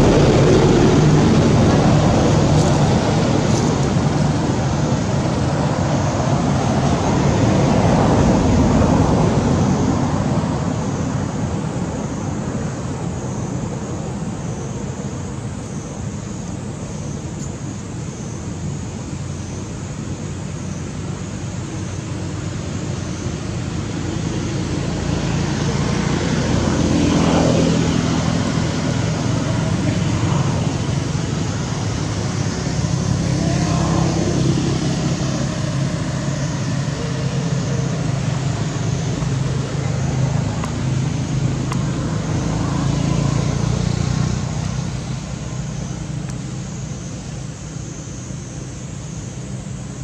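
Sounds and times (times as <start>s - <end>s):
vehicles passing by: 0.0s - 50.0s.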